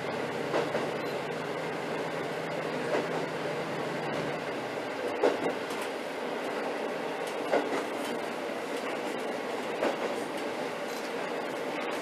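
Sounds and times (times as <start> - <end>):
railcar running rumble: 0.0 - 12.0.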